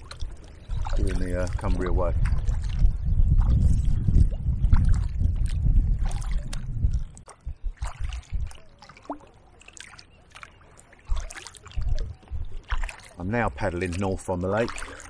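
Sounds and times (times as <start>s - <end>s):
wind buffeting microphone: 0.0s - 9.2s, 11.0s - 15.0s
paddle strokes splashing: 0.0s - 15.0s.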